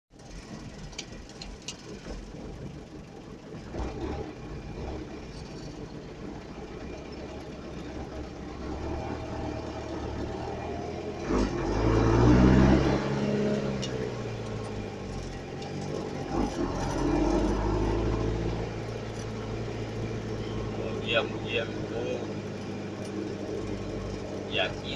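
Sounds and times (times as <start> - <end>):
vehicle engine revving and idling: 0.1 - 24.9.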